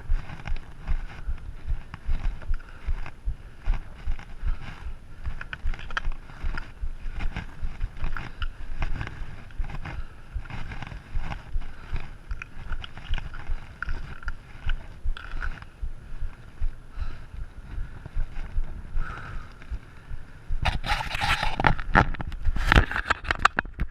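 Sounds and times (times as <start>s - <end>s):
bike clicking and rattling: 0.0s - 15.9s, 20.6s - 23.9s
wind buffeting microphone: 0.0s - 22.8s.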